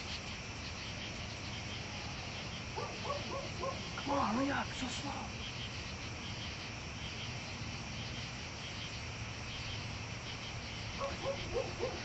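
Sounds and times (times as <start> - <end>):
crickets chirping: 0.0 - 12.0
outdoor background hiss: 0.0 - 12.0.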